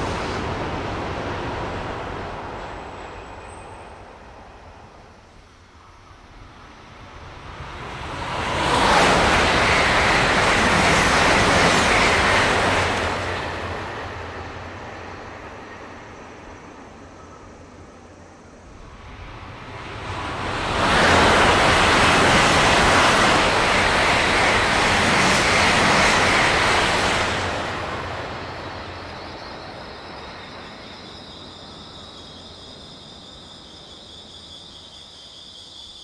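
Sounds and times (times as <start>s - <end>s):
train passing at high speed: 0.0s - 36.0s
insects chirring: 2.6s - 36.0s.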